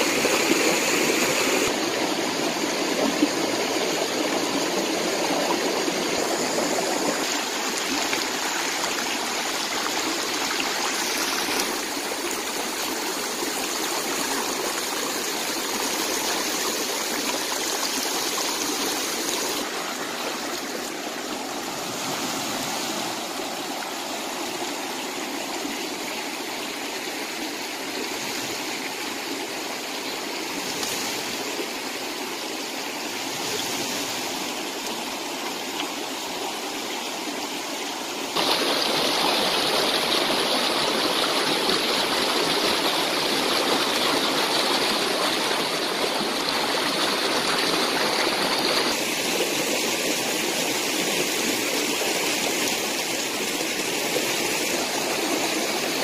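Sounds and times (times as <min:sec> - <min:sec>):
stream flowing over stones: 0:00.0 - 0:56.0.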